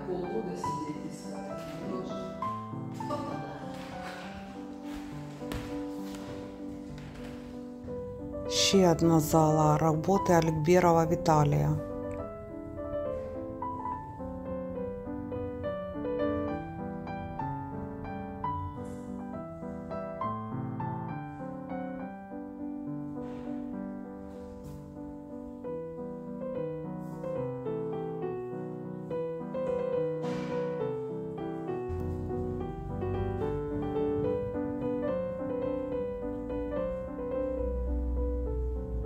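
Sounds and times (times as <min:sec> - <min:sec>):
slow piano music: 0:00.0 - 0:39.0.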